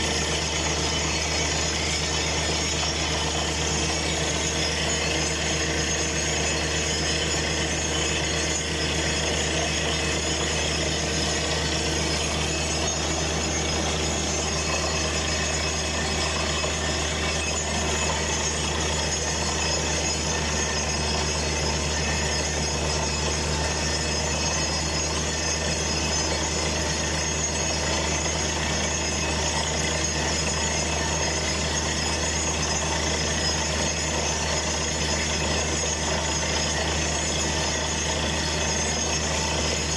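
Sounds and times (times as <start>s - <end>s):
drilling rig engine drone: 0.0s - 39.9s.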